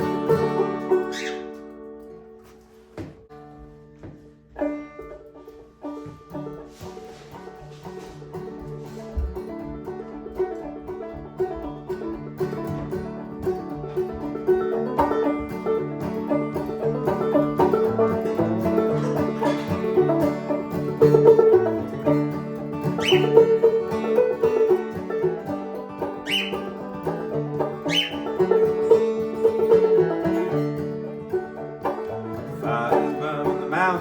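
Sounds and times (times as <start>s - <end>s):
acoustic band with plucked strings: 0.0s - 34.0s.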